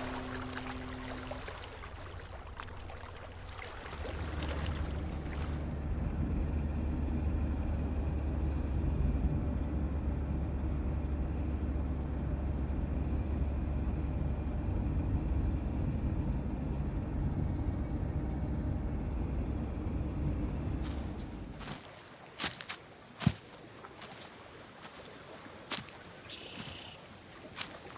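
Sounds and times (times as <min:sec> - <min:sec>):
boat engine droning: 0:00.0 - 0:27.9.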